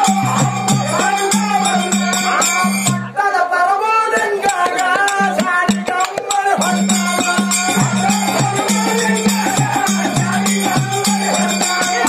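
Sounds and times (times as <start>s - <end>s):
barrel drums beaten in rhythm: 0.0s - 3.1s, 4.2s - 12.0s
man singing into a microphone: 0.0s - 12.0s.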